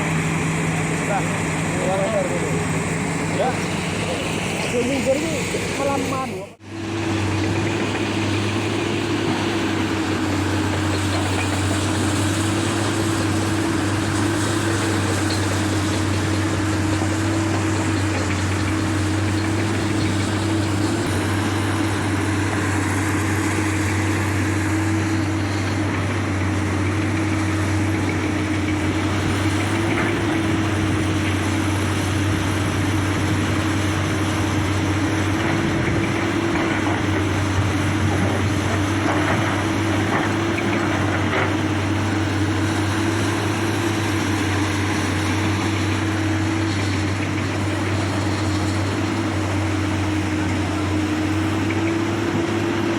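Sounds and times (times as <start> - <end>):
large diesel engine running: 0.0 - 52.9.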